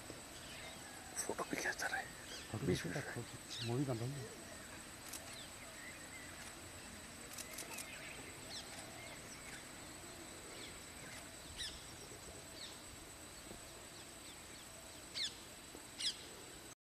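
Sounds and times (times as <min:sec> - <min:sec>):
birds chirping: 0:00.0 - 0:16.6
faint outdoor background: 0:00.0 - 0:16.8.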